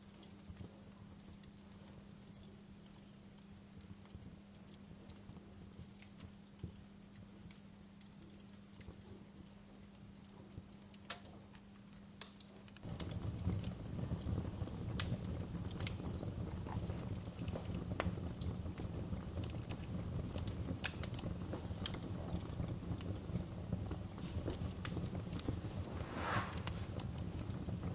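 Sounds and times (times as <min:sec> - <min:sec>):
low rumble of flame: 0:00.0 - 0:27.9
wood fire crackling: 0:00.0 - 0:27.9.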